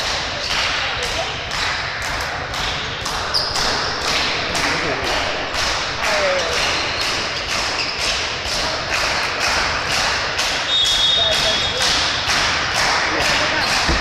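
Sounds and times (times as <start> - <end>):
hall noise and voices: 0.0 - 14.0
rhythmic thumping: 0.0 - 14.0.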